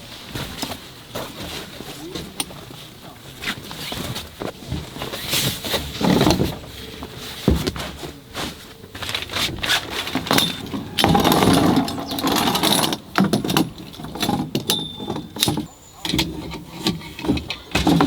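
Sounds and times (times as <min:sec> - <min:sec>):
rustling and scraping: 0:00.0 - 0:18.0
camping gear knocking and clattering: 0:00.3 - 0:18.0.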